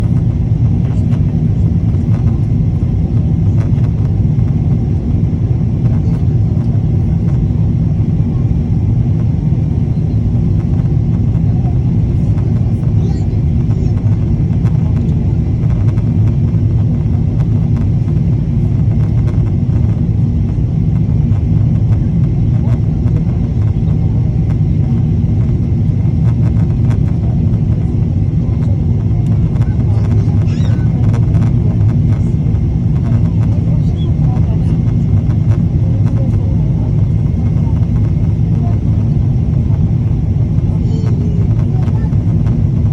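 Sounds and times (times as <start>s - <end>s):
loud low rumble: 0.0s - 42.9s.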